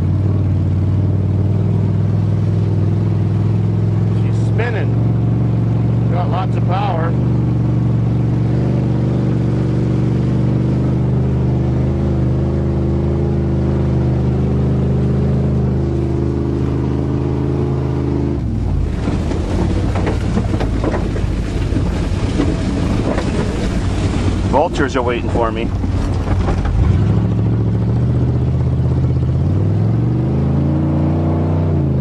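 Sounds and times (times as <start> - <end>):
pickup engine under throttle: 0.0 - 32.0.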